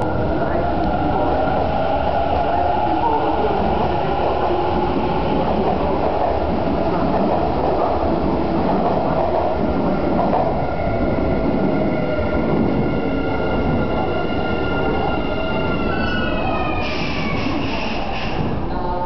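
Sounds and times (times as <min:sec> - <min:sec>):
train cars rumbling and clattering: 0:00.0 - 0:19.0.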